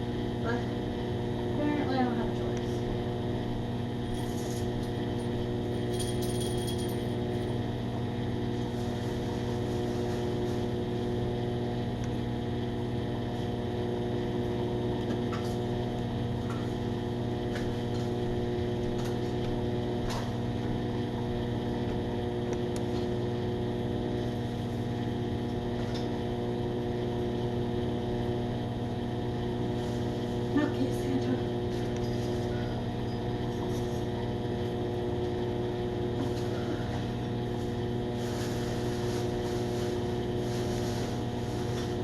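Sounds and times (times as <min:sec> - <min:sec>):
microwave oven humming: 0:00.0 - 0:42.0.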